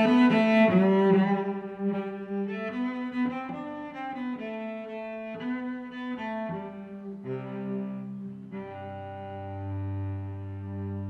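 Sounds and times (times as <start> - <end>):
slow instrumental music: 0.0 - 11.0.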